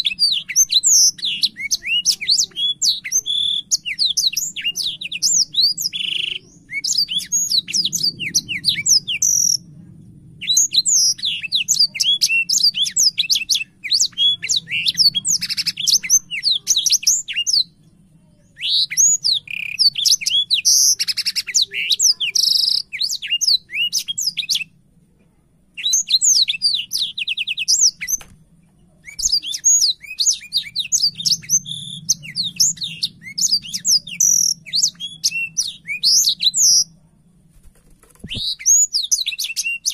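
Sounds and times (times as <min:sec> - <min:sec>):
faint low hum: 0:00.0 - 0:39.9
songbird singing: 0:00.0 - 0:39.9.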